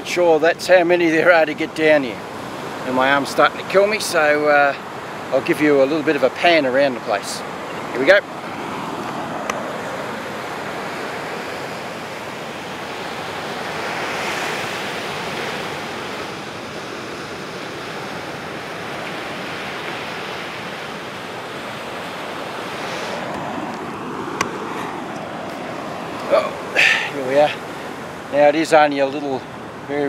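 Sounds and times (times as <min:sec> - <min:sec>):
ocean surf on a beach: 0:00.0 - 0:30.0.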